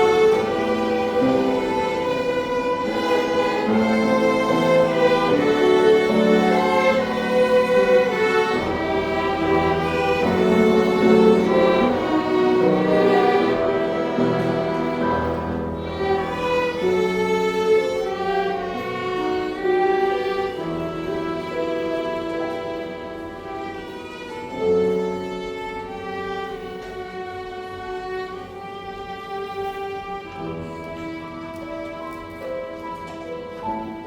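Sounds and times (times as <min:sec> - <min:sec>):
string ensemble playing hymn: 0:00.0 - 0:34.0.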